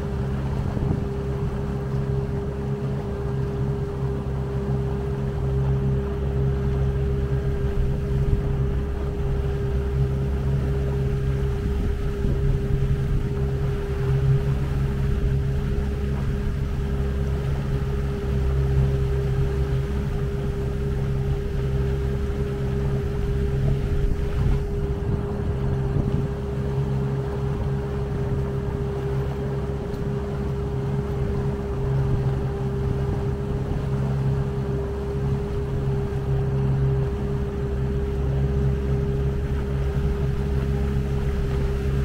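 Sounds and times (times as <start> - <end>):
outboard motor running: 0.0 - 42.0
water noise: 0.0 - 42.0
wind: 0.0 - 42.0.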